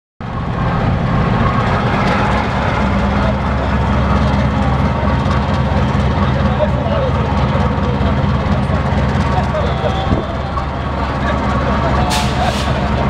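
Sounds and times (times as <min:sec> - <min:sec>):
locomotive engine idling: 0:00.2 - 0:13.0.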